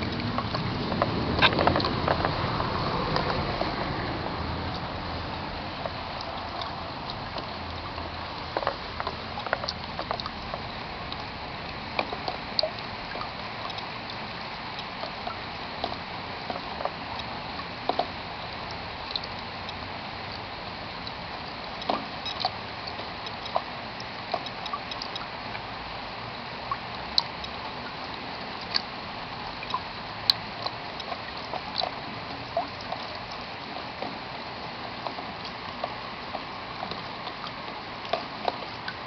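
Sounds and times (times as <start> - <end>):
water drips and plinks: 0.0 - 39.0.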